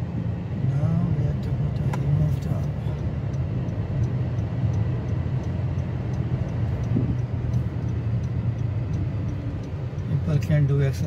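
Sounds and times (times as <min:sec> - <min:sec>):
car road and engine rumble: 0:00.0 - 0:11.0
faint ticking: 0:00.7 - 0:11.0.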